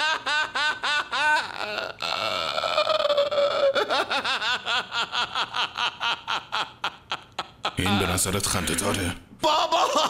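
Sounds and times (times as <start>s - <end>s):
man laughing: 0.0s - 8.2s, 9.4s - 10.0s.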